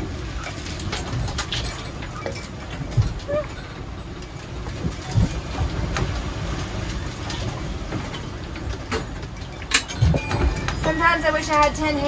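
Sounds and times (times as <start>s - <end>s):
low rumble of boat in rough seas: 0.0s - 12.0s
knocks and clinks from galley: 0.5s - 12.0s.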